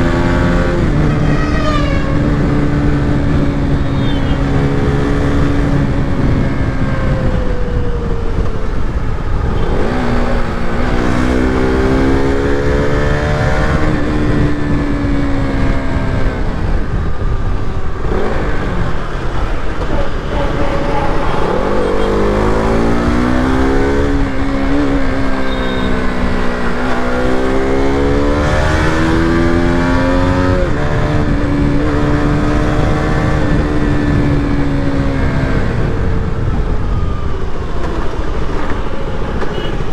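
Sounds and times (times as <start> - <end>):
motorcycle engine accelerating: 0.0 - 39.7
steady rushing noise: 0.0 - 39.9.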